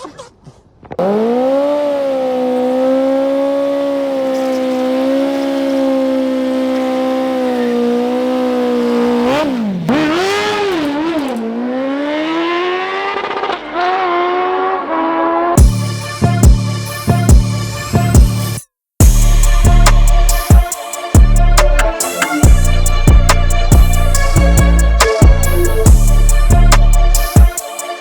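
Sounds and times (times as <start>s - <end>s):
drag race engine revving: 1.0s - 18.0s, 19.0s - 27.4s.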